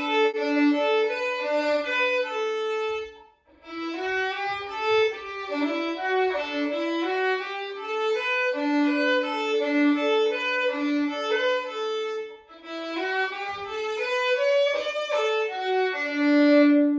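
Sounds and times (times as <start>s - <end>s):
slow violin melody: 0.0s - 16.9s.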